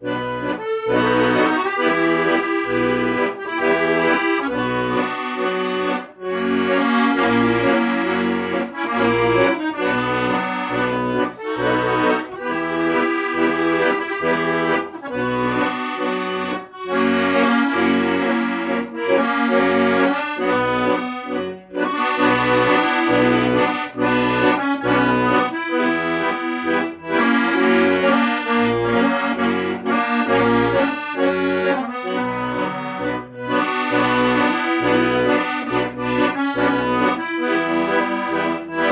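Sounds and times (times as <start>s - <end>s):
accordion music: 0.0s - 38.9s.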